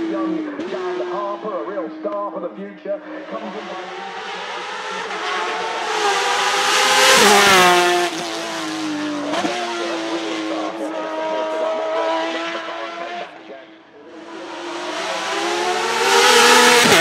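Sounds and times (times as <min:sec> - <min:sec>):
race car engine passing by: 0:03.1 - 0:17.0.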